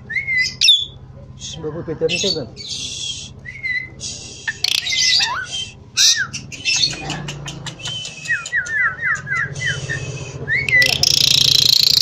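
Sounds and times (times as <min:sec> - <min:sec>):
starling chattering and whistling: 0:00.1 - 0:12.0.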